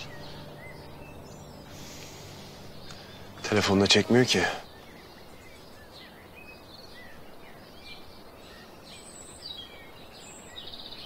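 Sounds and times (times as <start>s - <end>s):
faint steady hiss: 0.0s - 11.0s
small birds chirping: 0.0s - 11.0s.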